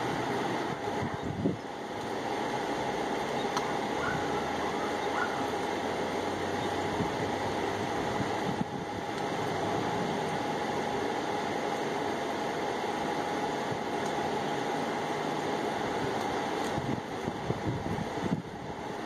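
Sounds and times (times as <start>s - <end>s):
faint constant whine: 0.0s - 19.0s
mechanical hum: 0.0s - 19.0s.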